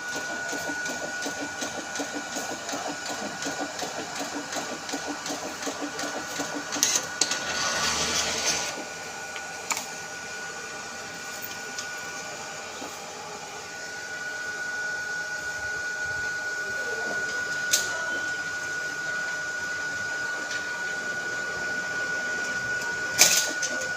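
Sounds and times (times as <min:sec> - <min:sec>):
small machine motor whining: 0:00.0 - 0:23.9.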